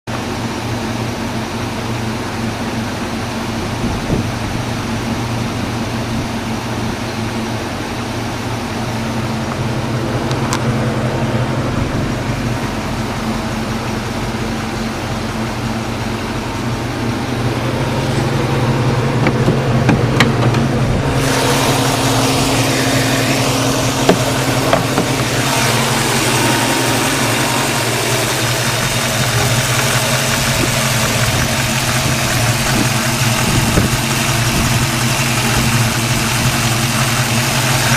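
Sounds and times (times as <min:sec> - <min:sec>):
car engine idling: 0:00.0 - 0:37.9
engine knocking: 0:00.1 - 0:37.9.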